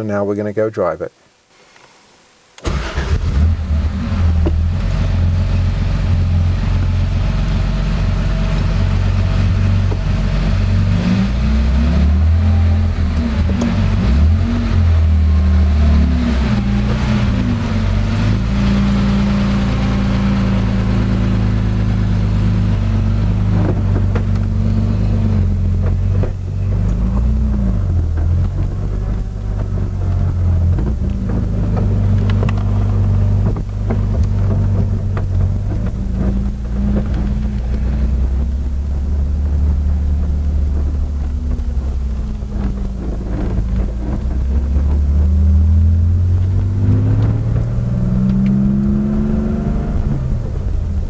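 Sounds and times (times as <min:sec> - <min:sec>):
car engine from inside cabin: 0:02.6 - 0:51.0.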